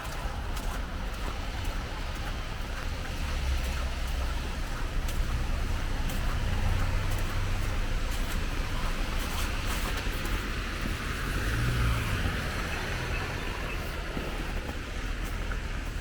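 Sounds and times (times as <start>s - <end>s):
rain hissing on wet road: 0.0s - 16.0s
traffic rumble: 0.0s - 16.0s.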